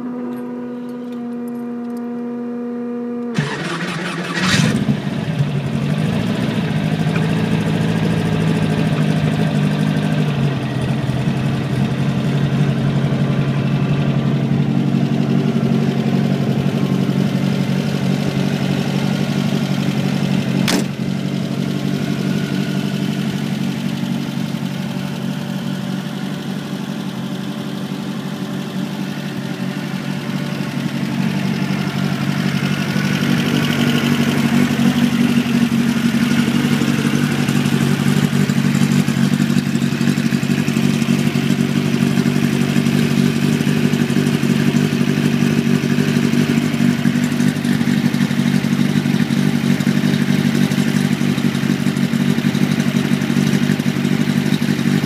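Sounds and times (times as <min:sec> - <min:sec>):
car engine starting and idling: 0:03.2 - 0:55.0.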